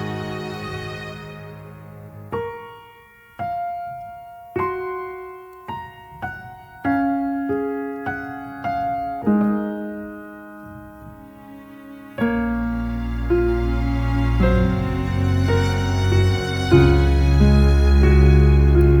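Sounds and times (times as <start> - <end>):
slow gentle piano melody: 0.0 - 19.0.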